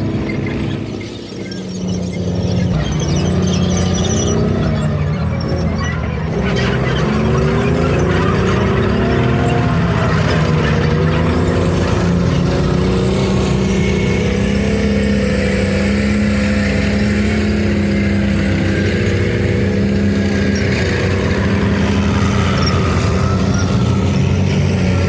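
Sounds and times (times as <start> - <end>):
heavy vehicle engine running: 0.0 - 25.0.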